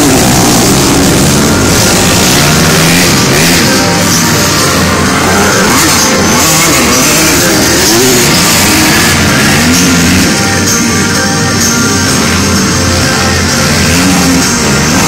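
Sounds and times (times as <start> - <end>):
dirt bike engines revving: 0.0 - 15.0
rock music: 0.0 - 15.0.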